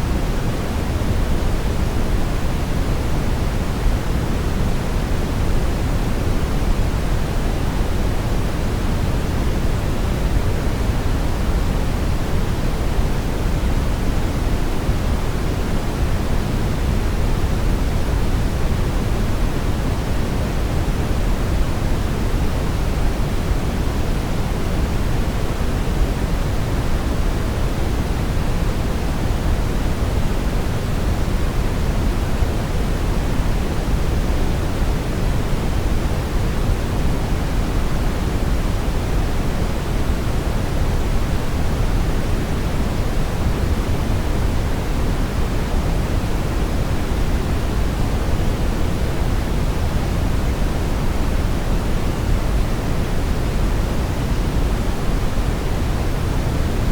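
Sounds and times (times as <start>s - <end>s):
brown noise rumbling hiss: 0.0s - 56.9s.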